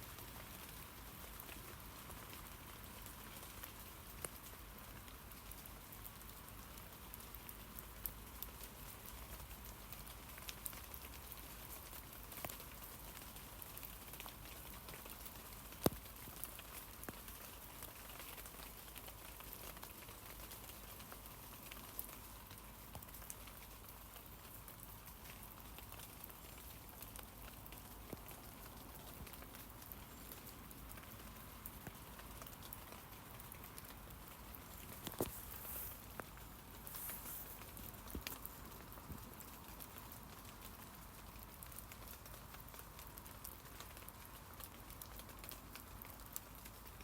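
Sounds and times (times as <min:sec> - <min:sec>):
rain pattering on leaves: 0:00.0 - 0:47.0.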